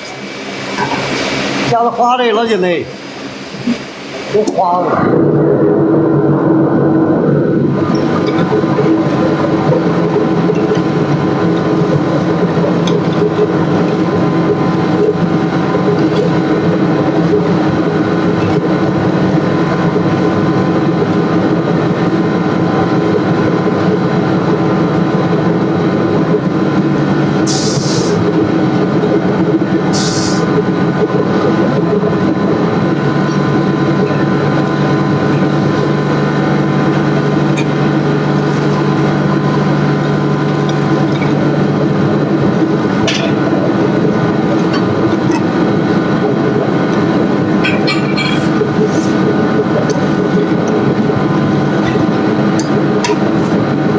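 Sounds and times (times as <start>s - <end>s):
machinery droning: 0.0s - 53.9s.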